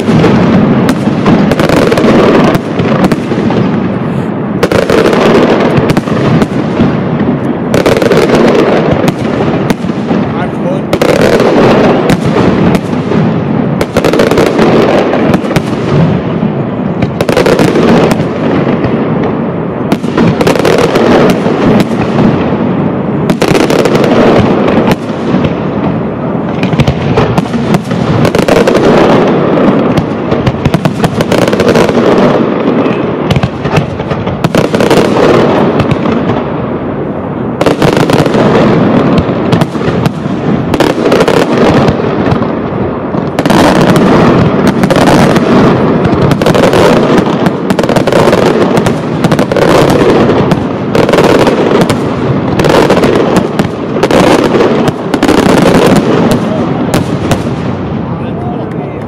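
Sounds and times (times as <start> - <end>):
continuous firework crackle: 0.0 - 59.0.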